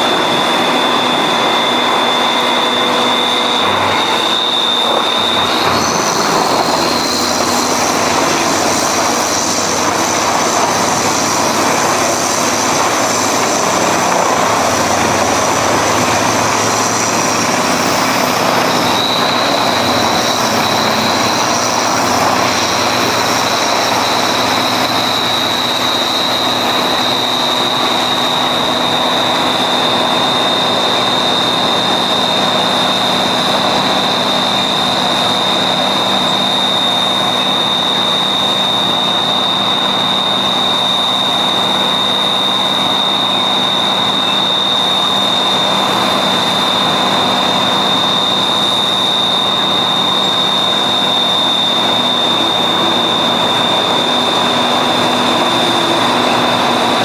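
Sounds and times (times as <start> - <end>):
high steady whine: 0.0 - 57.0
wood chipper running: 0.0 - 57.0.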